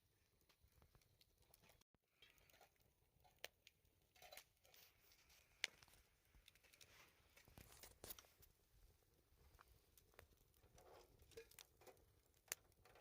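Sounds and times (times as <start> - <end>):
light crinkling: 0.2 - 13.0.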